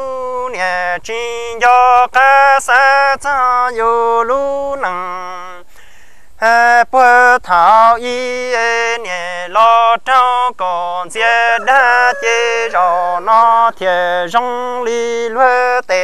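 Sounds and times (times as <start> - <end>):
person chanting unaccompanied: 0.0 - 5.7, 6.4 - 16.0.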